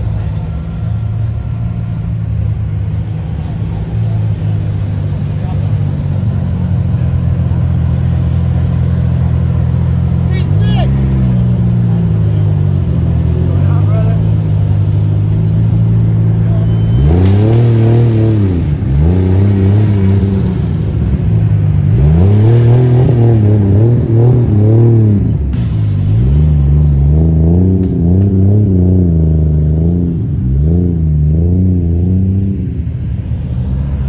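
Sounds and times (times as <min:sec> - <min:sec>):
car engine idling: 0:00.0 - 0:22.1, 0:24.4 - 0:34.0
car engine revving: 0:00.0 - 0:34.0.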